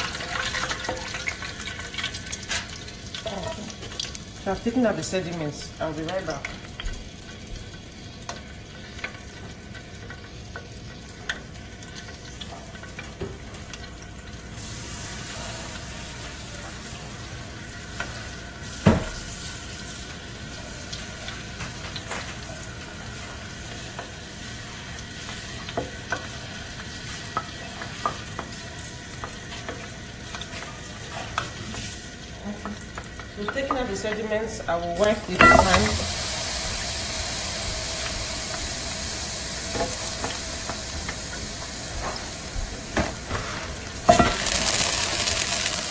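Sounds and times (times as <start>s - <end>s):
oil sizzling in a pan: 0.0s - 45.9s.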